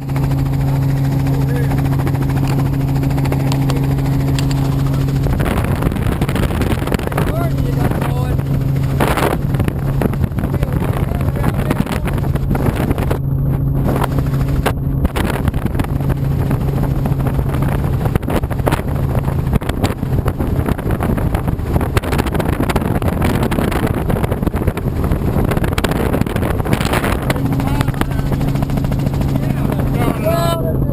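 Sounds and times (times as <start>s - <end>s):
helicopter engine and rotor drone: 0.0s - 30.9s
low hum: 0.0s - 30.9s.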